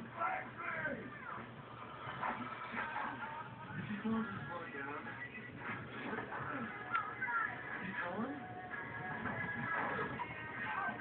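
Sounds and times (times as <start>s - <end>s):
background music: 0.0s - 11.0s
faint voices from television: 0.0s - 11.0s.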